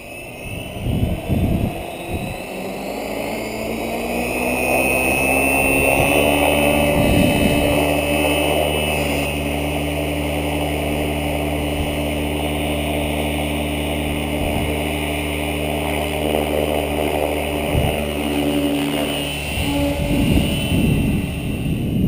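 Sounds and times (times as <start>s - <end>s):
rc helicopter motor and rotor: 0.0s - 22.0s
wind gusts on microphone: 0.0s - 22.0s.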